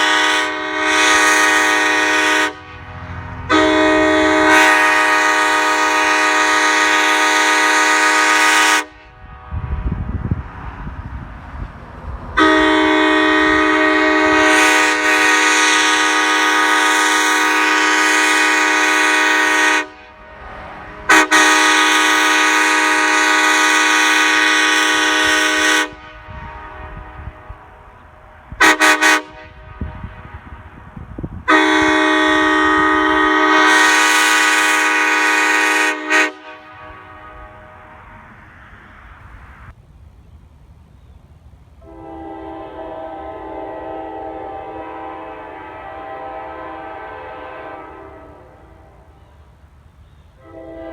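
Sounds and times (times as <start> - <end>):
train horn blasts: 0.0 - 10.9, 12.3 - 39.7, 41.8 - 49.6, 50.3 - 50.9.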